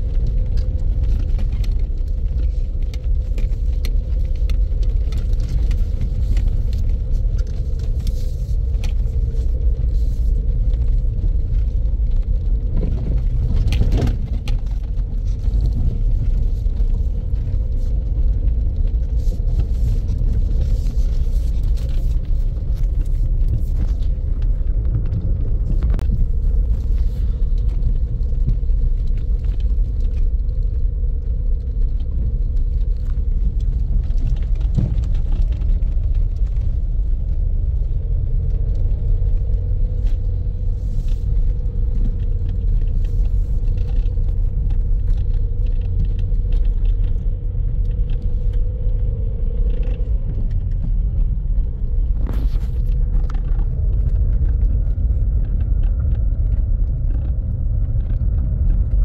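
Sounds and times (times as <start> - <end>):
vehicle rumbling on rough road: 0.0 - 59.0.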